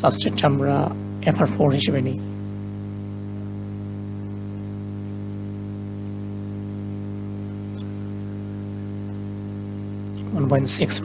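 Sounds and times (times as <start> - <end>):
electrical mains hum: 0.0 - 11.0
faint hiss: 0.0 - 11.0.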